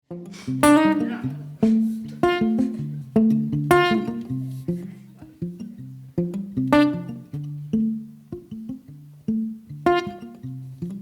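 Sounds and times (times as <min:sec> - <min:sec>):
acoustic guitar picking and chords: 0:00.1 - 0:11.0.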